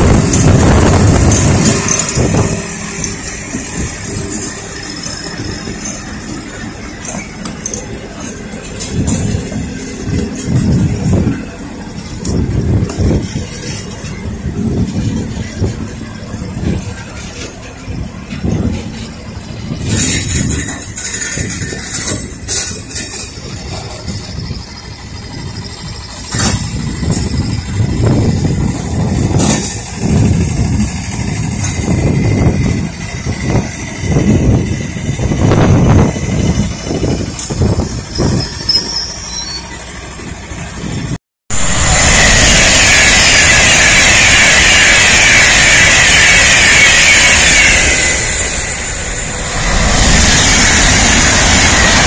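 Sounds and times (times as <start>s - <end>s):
train engine humming: 0.0s - 52.0s.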